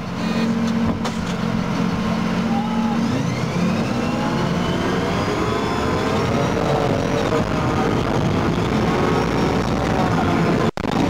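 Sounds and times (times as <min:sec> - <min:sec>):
armoured vehicle engine drone: 0:00.0 - 0:11.0
rising drivetrain whine: 0:00.0 - 0:11.0.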